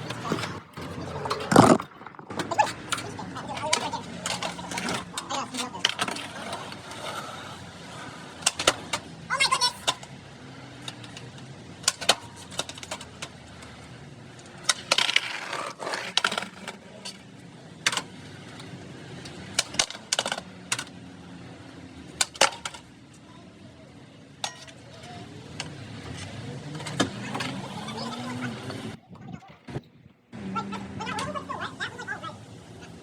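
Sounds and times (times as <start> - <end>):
skateboards clacking on concrete: 0.0 - 33.0.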